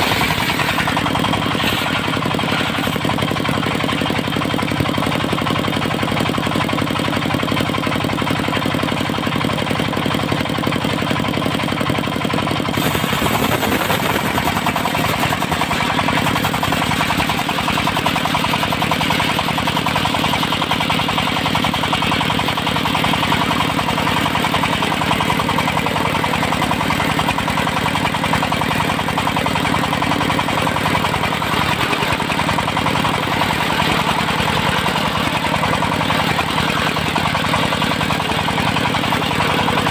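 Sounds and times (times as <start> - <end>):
diesel engine running sawmill: 0.0 - 39.9.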